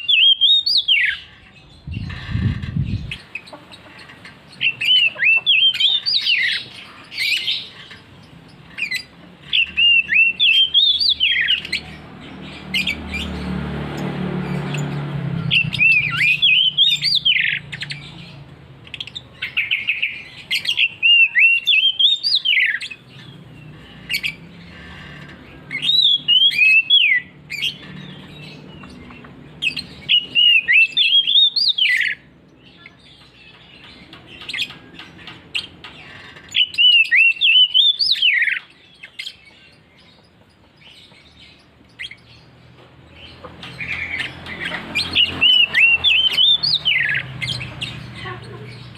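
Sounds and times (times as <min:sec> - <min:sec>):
songbird singing loudly: 0:00.0 - 0:03.9, 0:04.5 - 0:34.8, 0:36.5 - 0:48.9.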